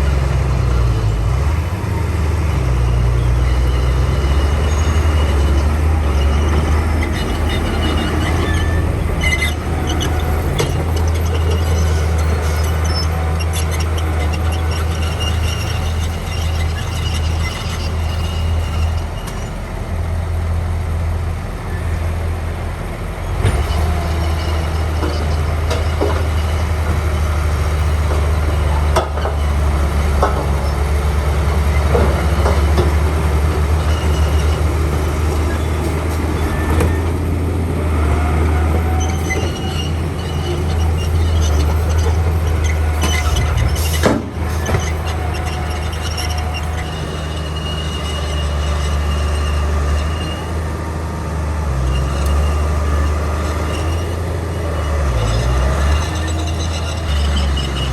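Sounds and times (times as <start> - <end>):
bulldozer diesel engine running: 0.0 - 57.9
steel tracks squealing and clanking: 0.0 - 57.9.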